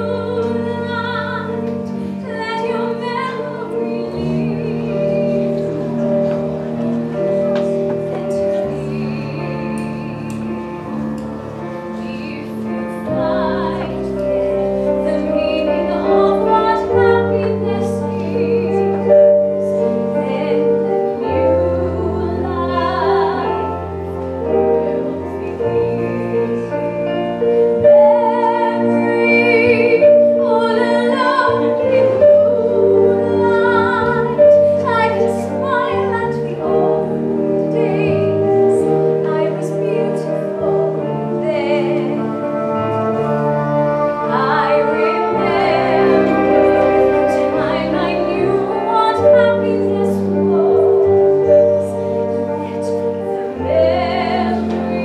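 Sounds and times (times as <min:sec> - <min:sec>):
woman singing with vibrato: 0:00.0 - 0:05.6, 0:12.0 - 0:14.2, 0:15.0 - 0:23.8, 0:27.8 - 0:55.0
held accompaniment chords: 0:00.0 - 0:55.0.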